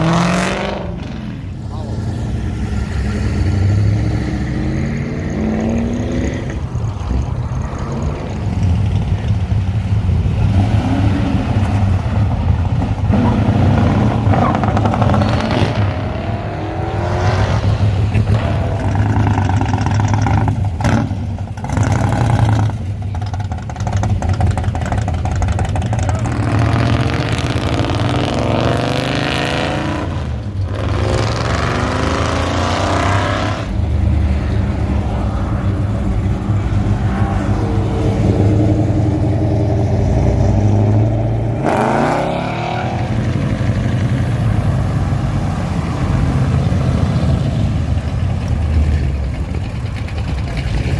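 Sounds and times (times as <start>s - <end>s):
car engines revving: 0.0s - 50.9s
engines idling rumble: 0.7s - 50.9s.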